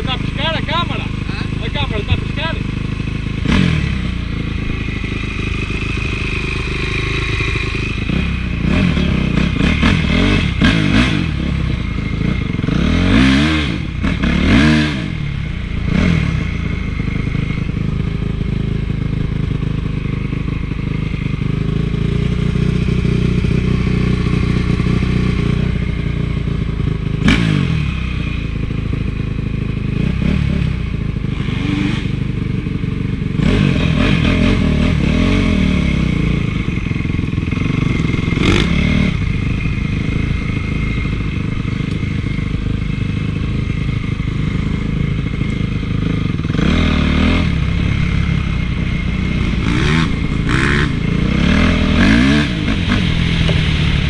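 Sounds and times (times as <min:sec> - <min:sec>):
motocross engine revving: 0:00.0 - 0:32.6, 0:33.2 - 0:54.0.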